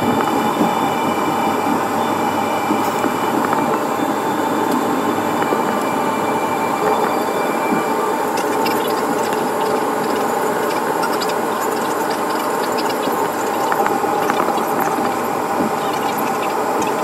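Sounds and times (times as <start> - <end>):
airliner engine and air rush: 0.0 - 17.0
faint hum: 0.0 - 17.0.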